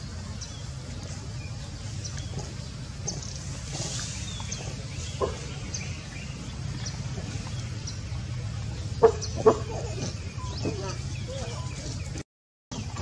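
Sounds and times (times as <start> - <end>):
steady low hum: 0.0 - 12.2
small birds chirping: 0.0 - 13.0.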